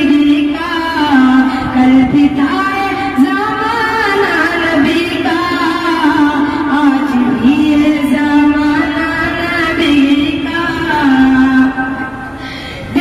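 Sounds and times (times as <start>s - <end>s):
boy singing devotional song: 0.0s - 13.0s.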